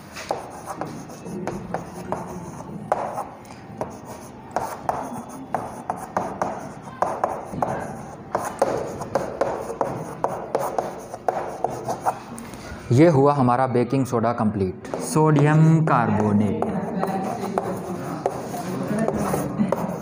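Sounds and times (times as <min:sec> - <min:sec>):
chalk writing on a chalkboard: 0:00.0 - 0:12.5, 0:16.1 - 0:20.0.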